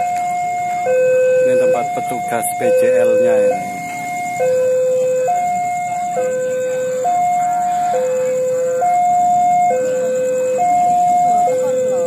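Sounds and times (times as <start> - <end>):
two-tone level crossing siren: 0.0 - 12.0.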